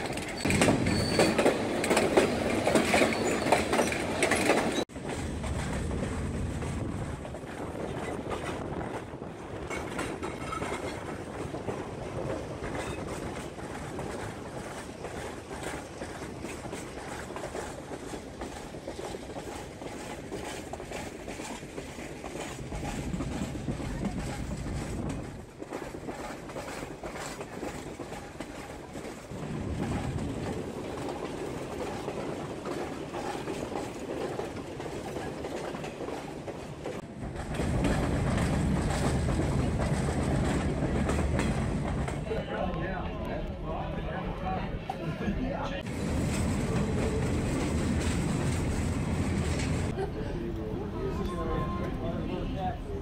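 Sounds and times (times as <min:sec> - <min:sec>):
train wheels clattering on rails: 0:00.0 - 0:42.6, 0:45.8 - 0:50.0.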